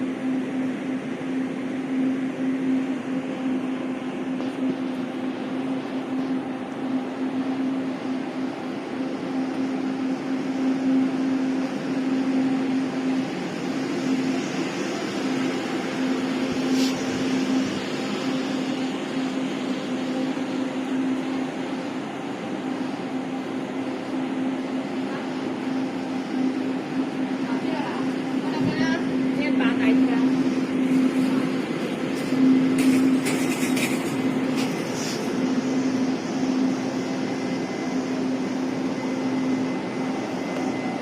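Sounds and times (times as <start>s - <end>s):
train mechanical hum: 0.0s - 41.0s.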